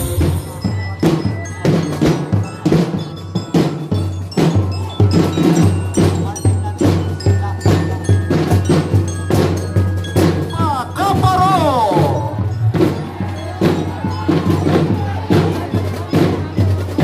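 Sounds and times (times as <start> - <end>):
bell-like chiming: 0.0 - 17.0
percussion-driven dance music: 0.0 - 17.0.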